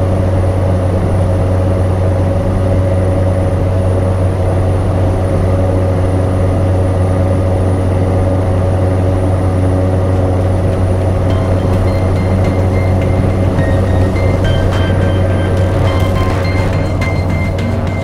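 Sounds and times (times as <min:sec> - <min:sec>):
turboprop engine drone: 0:00.0 - 0:18.0.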